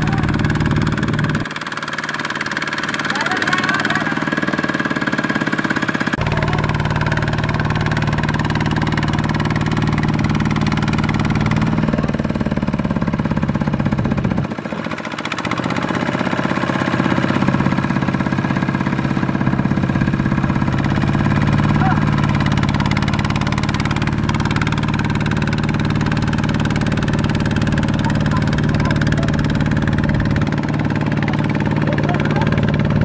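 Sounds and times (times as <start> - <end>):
diesel engine under load: 0.0 - 33.0.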